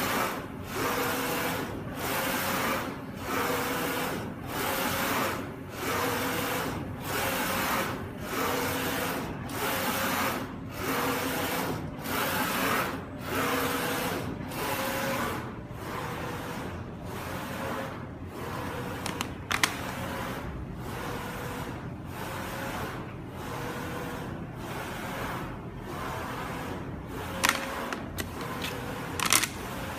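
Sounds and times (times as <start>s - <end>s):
printer carriage whirring: 0.0s - 29.9s.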